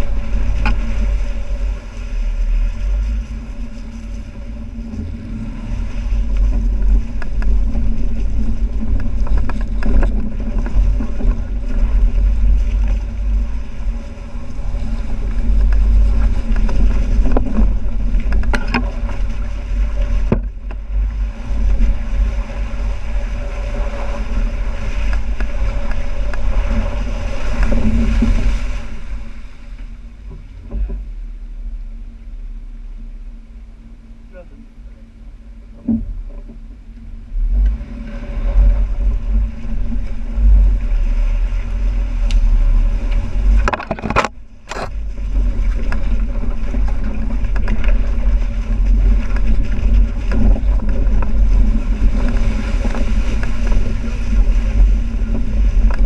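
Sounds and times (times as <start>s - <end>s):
water splashing around tyres: 0.0s - 30.7s, 36.2s - 56.0s
car engine running: 0.0s - 56.0s.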